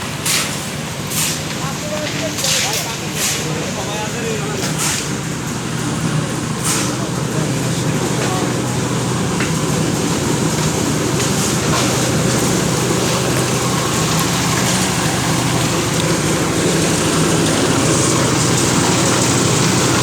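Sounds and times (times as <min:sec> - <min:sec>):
concrete mixer engine running: 0:00.0 - 0:20.0.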